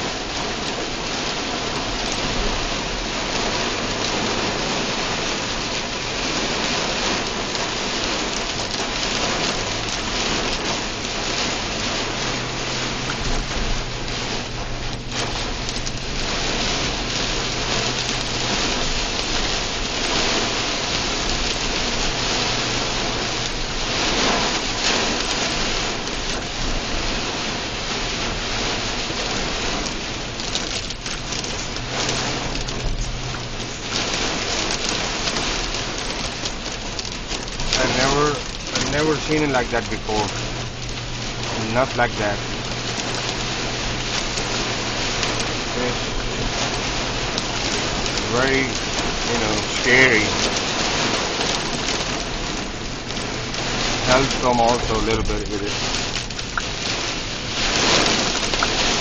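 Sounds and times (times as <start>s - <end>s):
hard rain on car roof: 0.0s - 59.0s.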